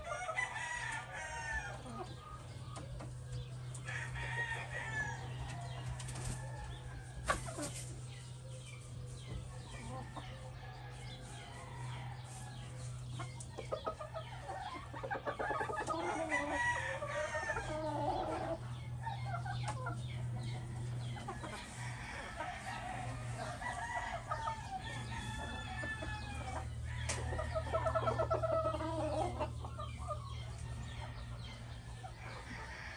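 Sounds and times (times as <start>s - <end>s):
rooster and hens clucking: 0.0s - 32.9s.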